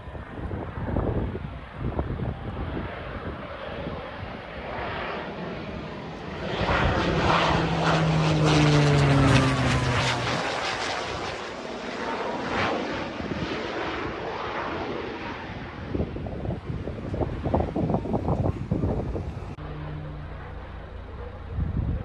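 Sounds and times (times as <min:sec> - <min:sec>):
propeller plane flying overhead: 0:00.0 - 0:22.0.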